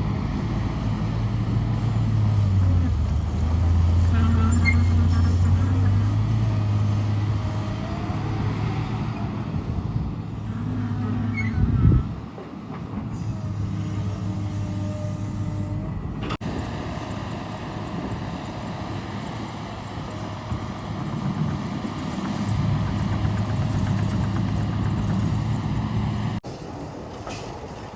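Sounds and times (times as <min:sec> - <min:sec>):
diesel engine of construction machinery: 0:00.0 - 0:27.9.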